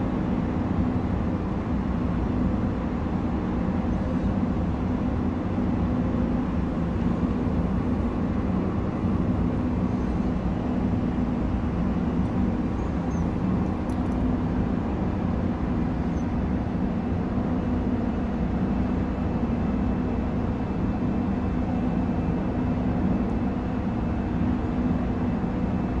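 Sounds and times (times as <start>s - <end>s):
distant city traffic: 0.0s - 26.0s.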